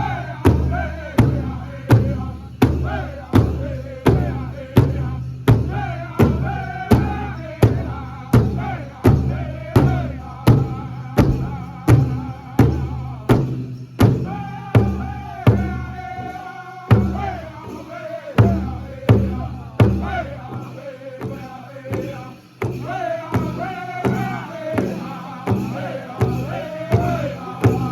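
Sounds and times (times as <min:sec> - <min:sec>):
big drum beat: 0:00.0 - 0:27.9
high-pitched group singing: 0:00.0 - 0:27.9.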